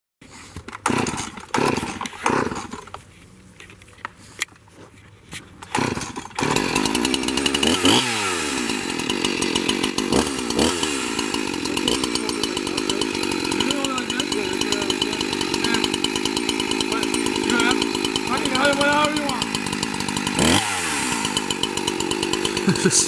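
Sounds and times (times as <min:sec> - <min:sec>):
chainsaw engine: 0:00.2 - 0:03.1, 0:05.6 - 0:23.0.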